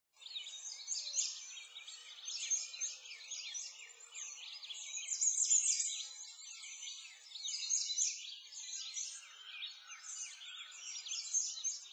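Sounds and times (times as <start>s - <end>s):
small birds chirping: 0.2s - 11.9s.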